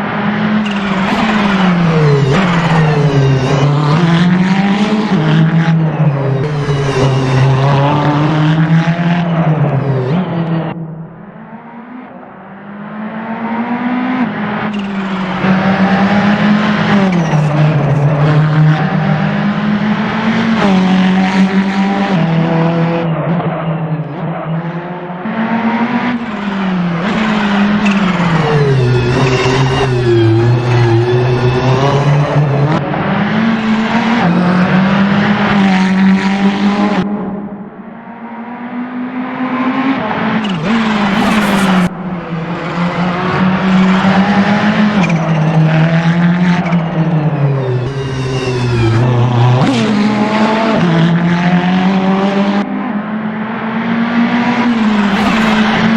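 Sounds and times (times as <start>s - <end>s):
racing car engine accelerating: 0.0s - 55.9s.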